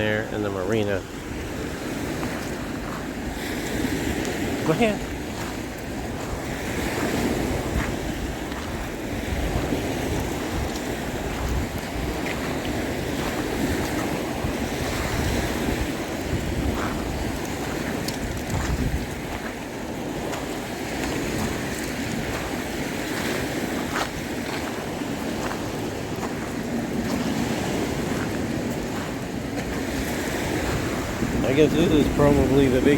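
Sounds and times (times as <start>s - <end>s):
small waves washing on beach: 0.0s - 32.9s
wind buffeting microphone: 0.0s - 32.9s.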